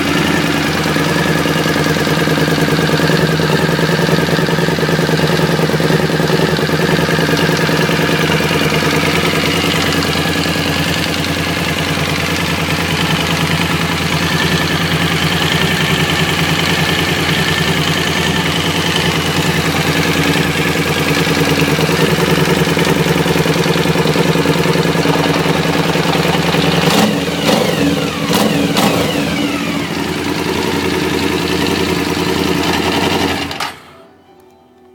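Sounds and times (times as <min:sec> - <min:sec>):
motorcycle engine idling with knocking: 0:00.0 - 0:33.8.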